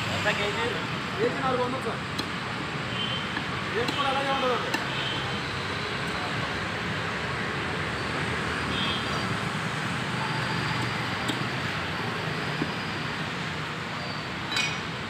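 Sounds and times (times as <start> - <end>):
road traffic: 0.0 - 15.0
street market din: 0.0 - 15.0.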